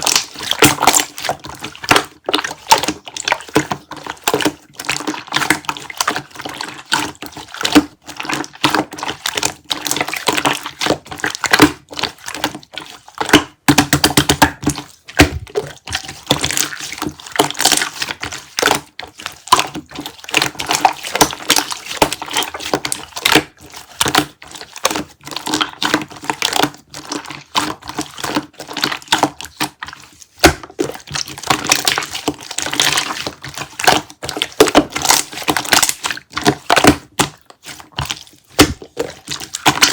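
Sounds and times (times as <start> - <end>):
jelly squelching and crackling: 0.0 - 39.9.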